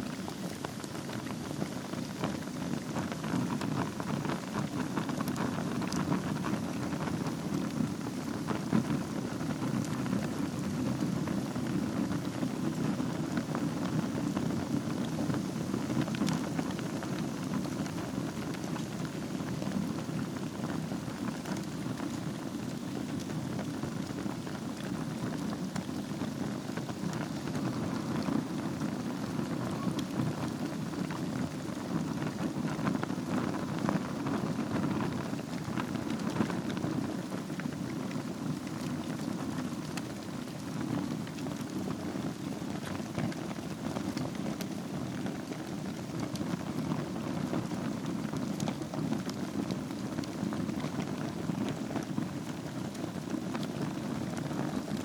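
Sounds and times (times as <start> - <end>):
fire pops: 0.0 - 55.0
wood fire crackling: 0.0 - 55.0.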